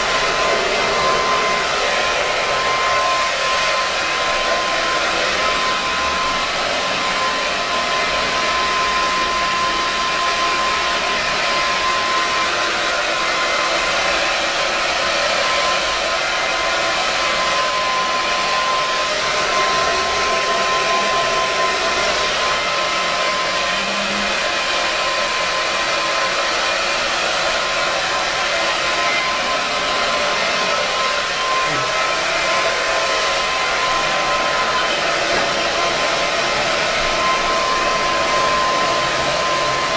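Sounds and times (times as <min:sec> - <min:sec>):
blow dryer running: 0:00.0 - 0:39.9.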